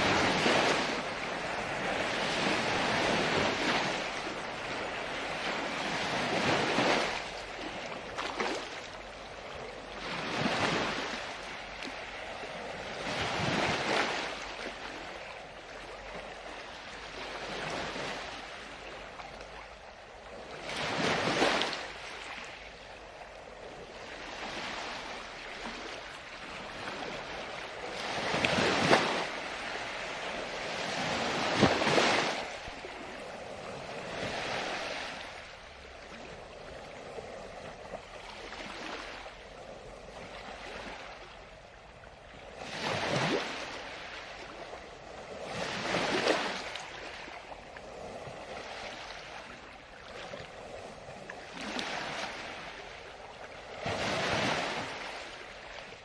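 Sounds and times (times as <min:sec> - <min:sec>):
ocean waves: 0:00.0 - 0:56.0.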